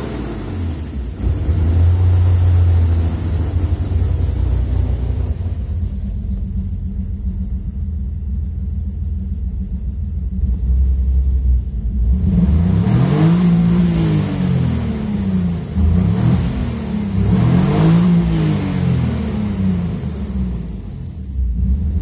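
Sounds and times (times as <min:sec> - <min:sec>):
car engine revving: 0:00.0 - 0:07.6, 0:10.3 - 0:22.0.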